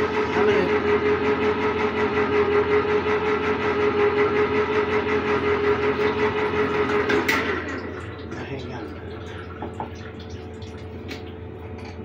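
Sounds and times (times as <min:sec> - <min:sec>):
electric can opener whirring: 0:00.0 - 0:12.0.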